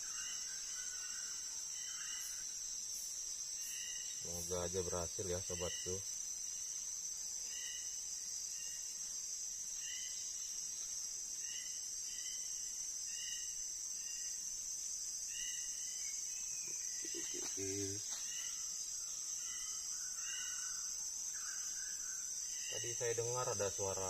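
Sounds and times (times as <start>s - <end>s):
insect chorus: 0.0s - 24.0s.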